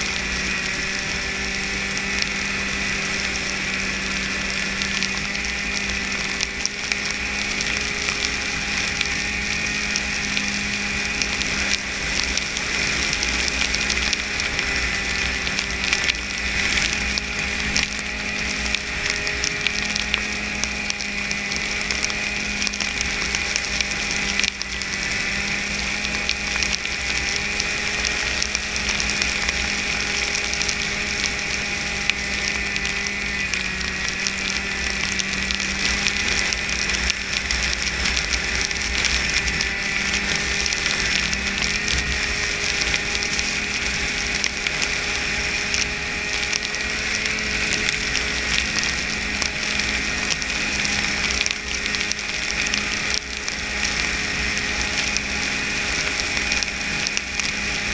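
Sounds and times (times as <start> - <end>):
snowmobile engine: 0.0 - 57.9.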